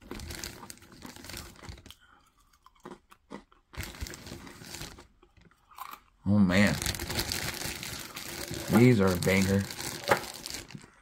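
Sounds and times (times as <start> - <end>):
person crunching chips: 0.0 - 11.0.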